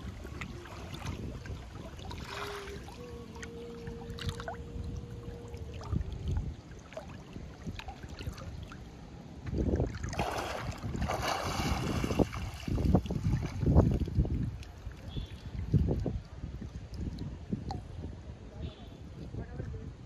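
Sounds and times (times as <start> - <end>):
water sloshing from wading: 0.0 - 18.1
wind buffeting microphone: 0.0 - 20.0.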